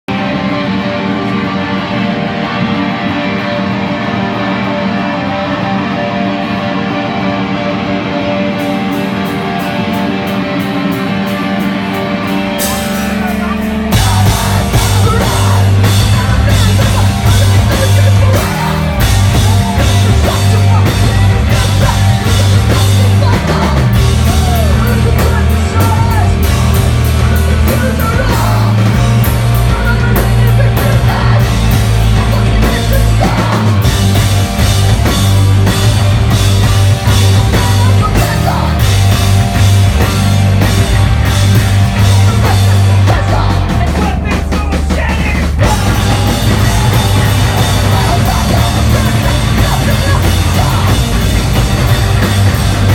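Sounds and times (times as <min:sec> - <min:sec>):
punk band playing loud: 0:00.0 - 0:52.9.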